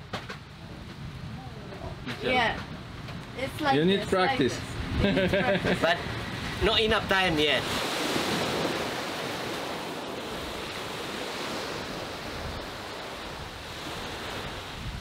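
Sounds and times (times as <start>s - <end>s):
ocean surf rushing: 0.0s - 15.0s
wind on microphone: 0.0s - 15.0s.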